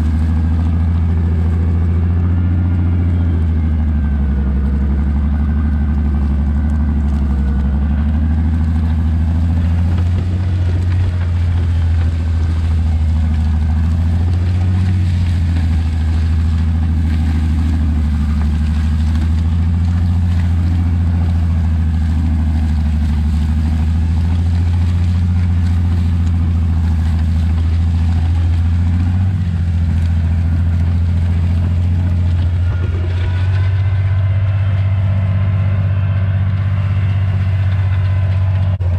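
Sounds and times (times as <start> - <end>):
tractor engine running under load: 0.0 - 38.9.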